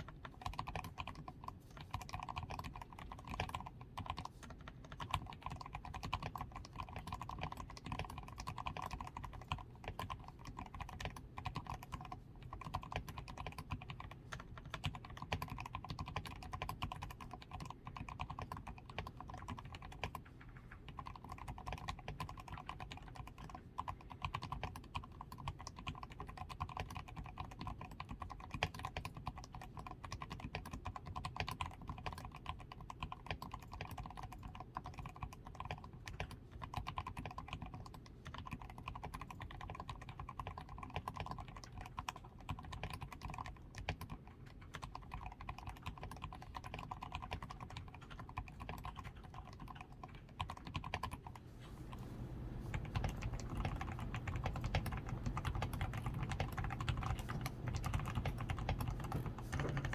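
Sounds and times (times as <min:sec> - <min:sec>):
typing on mechanical keyboard: 0:00.0 - 0:59.9.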